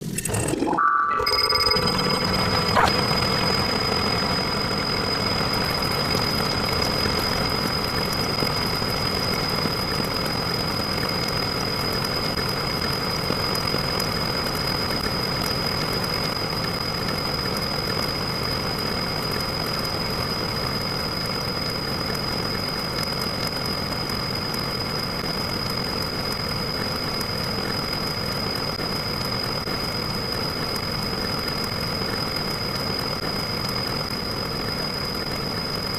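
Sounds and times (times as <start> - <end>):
constant high whine: 0.0 - 35.9
engine-like running noise: 0.0 - 35.9.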